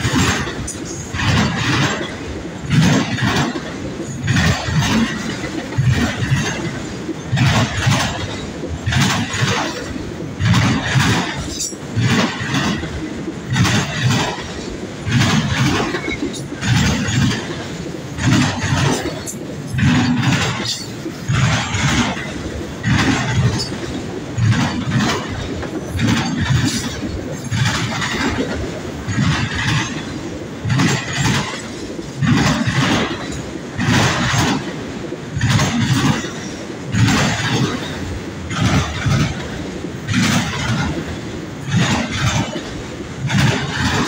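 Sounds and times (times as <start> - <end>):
train rumble: 0.0 - 44.0
train wheels clacking: 0.0 - 44.0.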